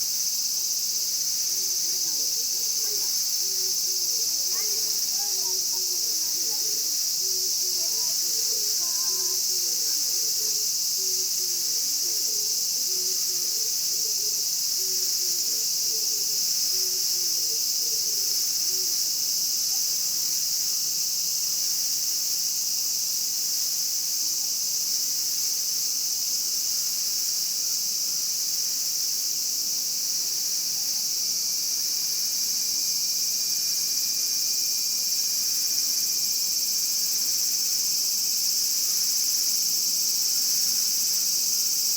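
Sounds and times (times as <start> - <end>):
cicadas droning: 0.0 - 41.9.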